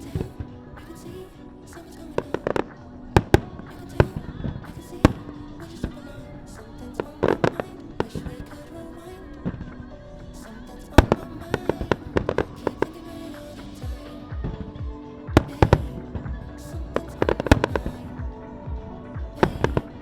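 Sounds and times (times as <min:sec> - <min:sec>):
music playing: 0:00.0 - 0:20.0.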